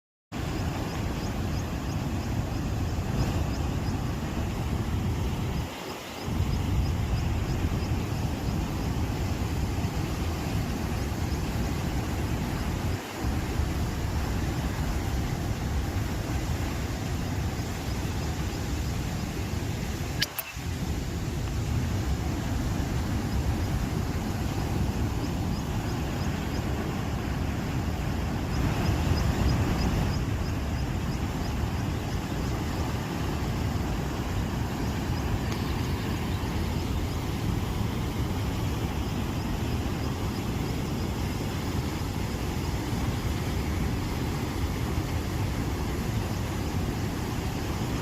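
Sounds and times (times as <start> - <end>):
water rushing over a spillway: 0.4 - 48.0.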